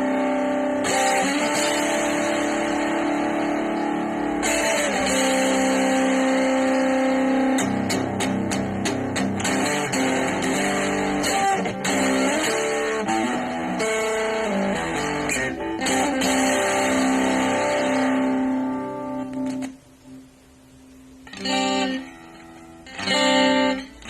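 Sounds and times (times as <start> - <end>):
electric guitar through small amp: 0.0 - 24.0.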